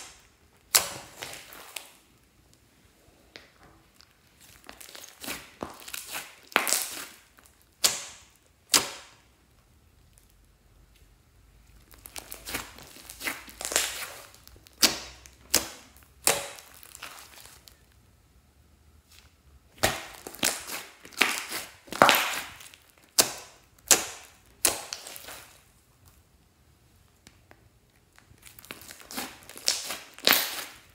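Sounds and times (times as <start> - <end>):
slime being squished by hand: 0.0 - 2.1, 3.4 - 9.3, 11.7 - 17.9, 19.1 - 26.1, 27.2 - 30.9.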